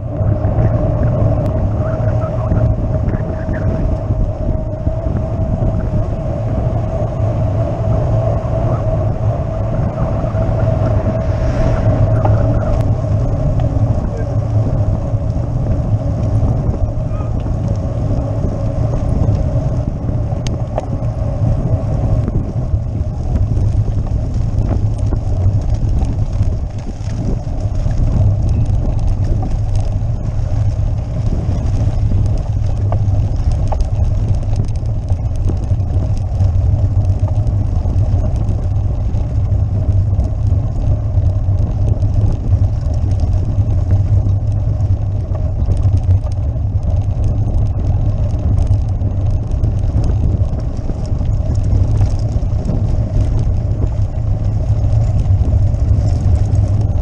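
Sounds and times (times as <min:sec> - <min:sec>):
bike rattling: 0:00.0 - 0:57.0
bike rumbling over cobblestones: 0:00.0 - 0:57.0.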